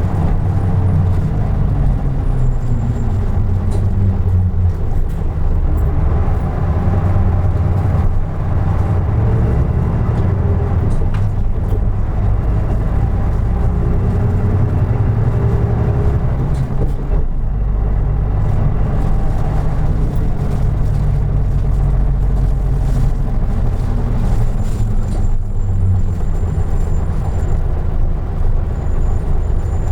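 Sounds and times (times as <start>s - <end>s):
bus engine drone: 0.0s - 29.9s
road noise: 0.0s - 29.9s.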